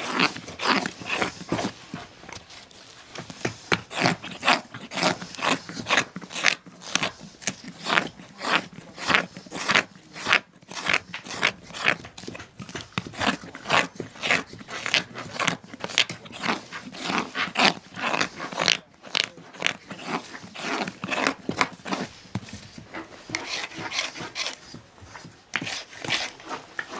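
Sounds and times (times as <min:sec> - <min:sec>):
knife carving wood: 0:00.0 - 0:26.9.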